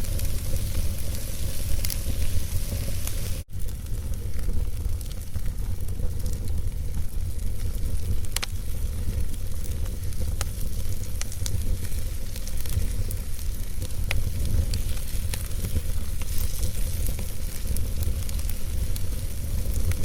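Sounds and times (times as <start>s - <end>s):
fire rumble and hiss: 0.0s - 20.0s
logs crackling and popping: 0.0s - 20.0s.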